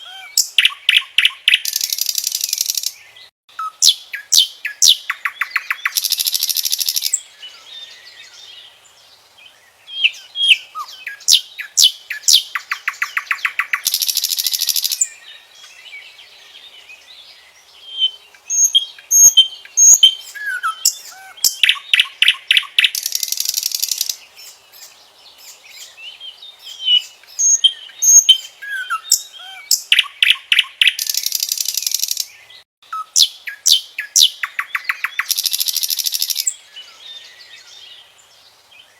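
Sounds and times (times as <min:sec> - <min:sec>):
nightingale singing: 0:00.0 - 0:38.9.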